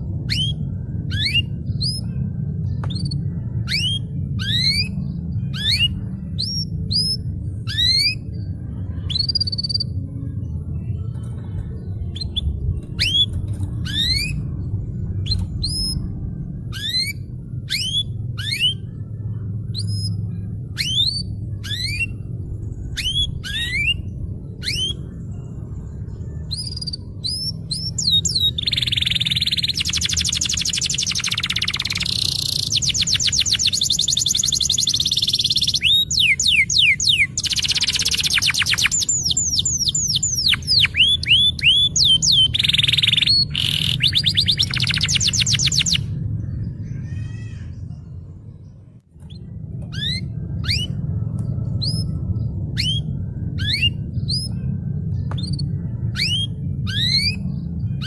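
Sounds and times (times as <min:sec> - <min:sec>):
canary singing: 0:00.0 - 0:10.1, 0:11.2 - 0:48.3, 0:49.2 - 0:58.0
low steady hum: 0:00.0 - 0:58.0.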